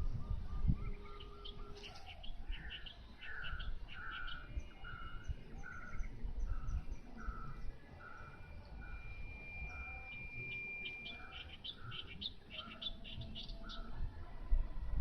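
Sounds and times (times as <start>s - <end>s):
bird calling: 0.6s - 13.9s
high bird chirps: 0.8s - 13.9s.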